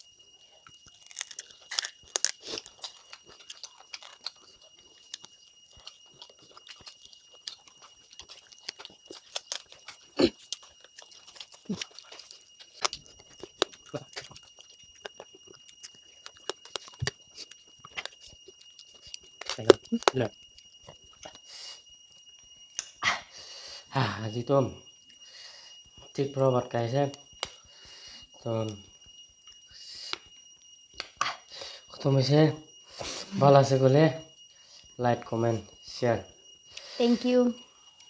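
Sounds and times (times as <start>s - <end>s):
people chewing and crunching: 0.0s - 24.3s, 25.0s - 32.1s.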